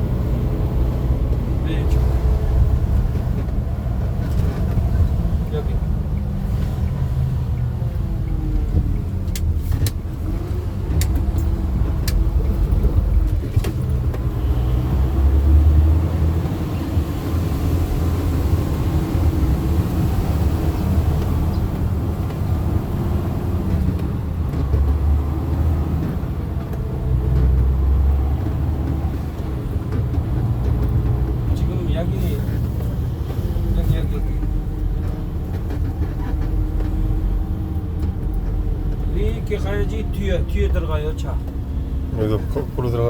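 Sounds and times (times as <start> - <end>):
vehicle engine and road rumble: 0.0 - 43.0.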